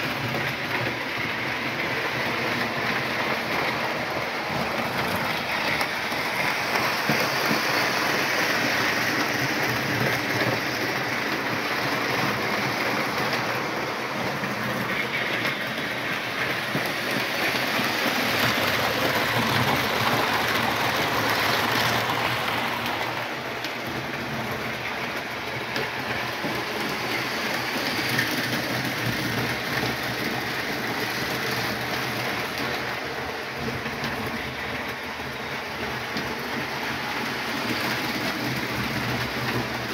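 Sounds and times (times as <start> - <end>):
model train wheels clattering: 0.0 - 39.9.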